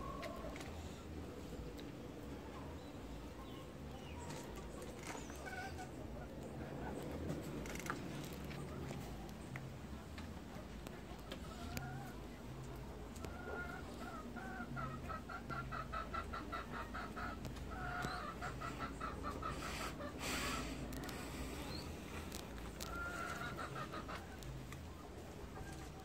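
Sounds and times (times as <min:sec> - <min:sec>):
pheasants clucking: 0:00.0 - 0:26.0.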